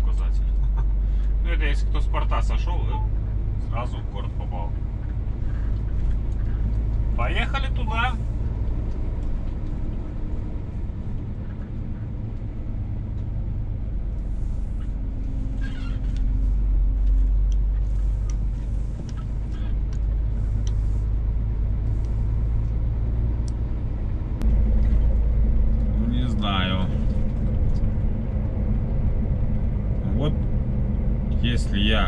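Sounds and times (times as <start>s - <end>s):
truck diesel engine drone: 0.0s - 32.0s.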